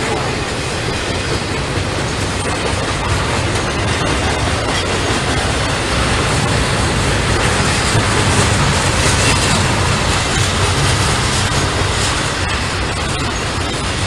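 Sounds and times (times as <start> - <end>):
freight train wheels rumbling: 0.0 - 14.0
rail joints clicking: 0.0 - 14.0.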